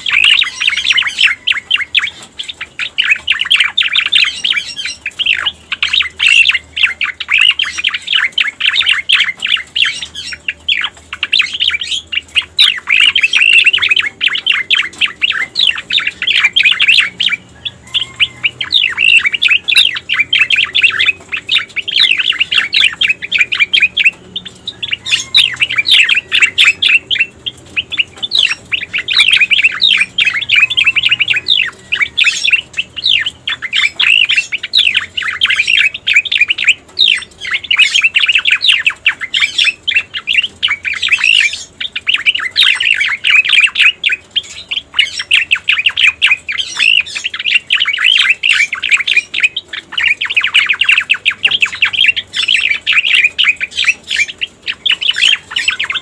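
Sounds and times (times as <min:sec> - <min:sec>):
bird song of rapid chirps: 0:00.0 - 0:56.0.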